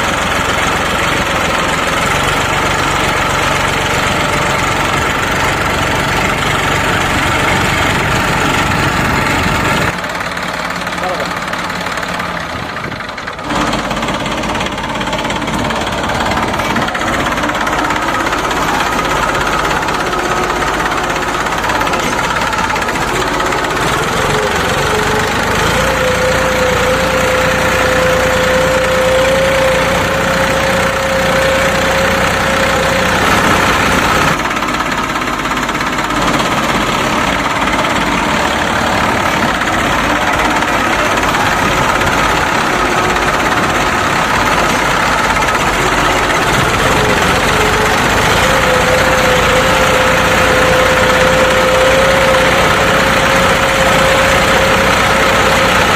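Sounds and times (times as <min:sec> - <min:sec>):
tractor engine knocking idle: 0:00.0 - 0:55.9.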